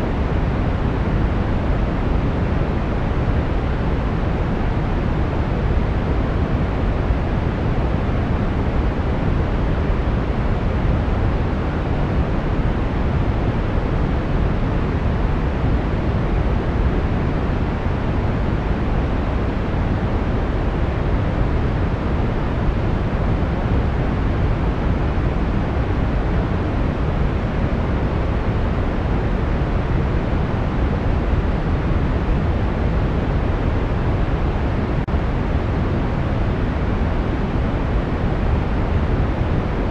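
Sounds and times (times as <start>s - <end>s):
brown noise rumbling hiss: 0.0s - 39.9s.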